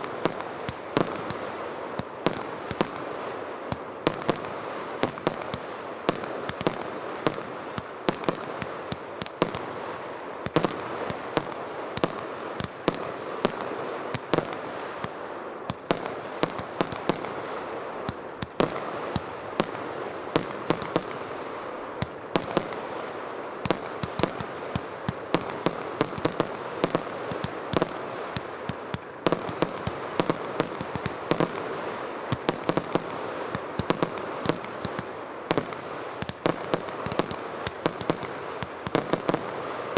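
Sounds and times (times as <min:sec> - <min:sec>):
fireworks shots and bursts: 0:00.0 - 0:39.9
steady hiss: 0:00.0 - 0:39.9.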